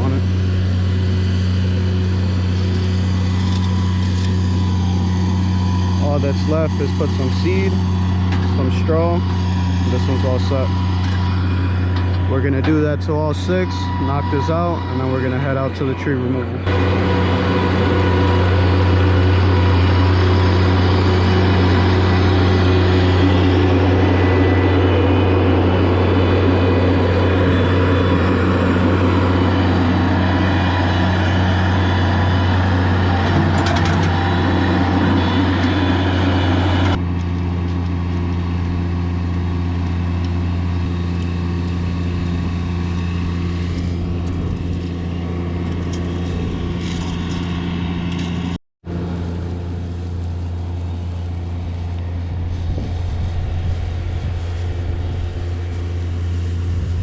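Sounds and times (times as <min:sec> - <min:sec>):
loader engine humming: 0:00.0 - 0:57.0.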